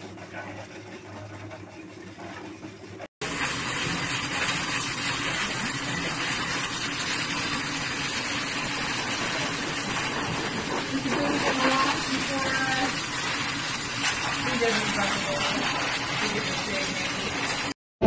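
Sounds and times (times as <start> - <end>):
pet dryer blowing: 3.2 - 17.8.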